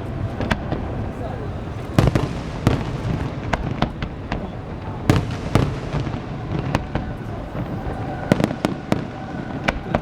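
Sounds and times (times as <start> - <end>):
fireworks cracks and booms: 0.0 - 10.0
rumble of distant fireworks: 0.0 - 10.0.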